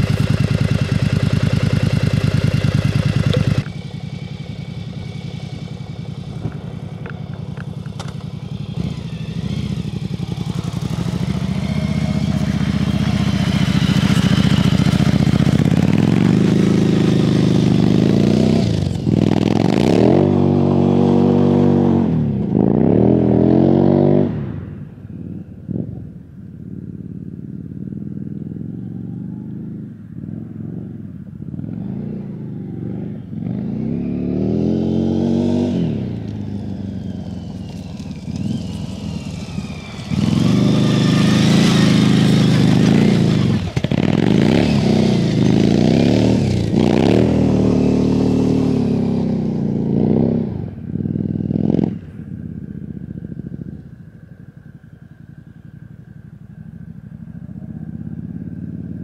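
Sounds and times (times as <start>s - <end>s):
trike engine revving: 0.0s - 24.5s, 27.9s - 59.0s.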